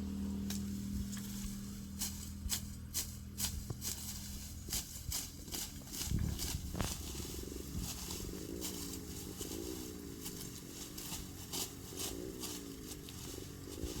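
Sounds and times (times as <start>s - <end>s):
low wavering hum: 0.0s - 14.0s
sickle swishing through grass: 0.4s - 14.0s.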